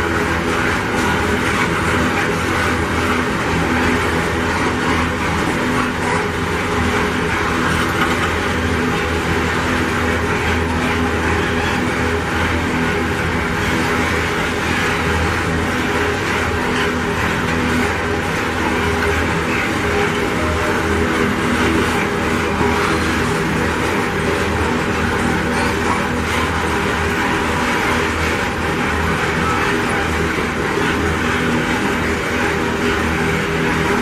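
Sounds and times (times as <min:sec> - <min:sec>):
steel wheels running on rails: 0:00.0 - 0:34.0.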